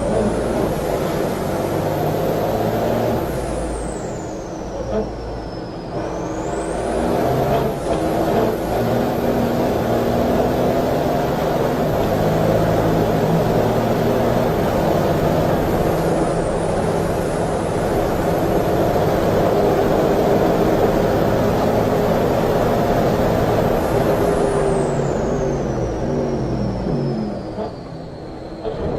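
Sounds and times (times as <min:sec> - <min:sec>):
race car engine running hard: 0:00.0 - 0:28.9
road and wind noise: 0:00.0 - 0:28.9.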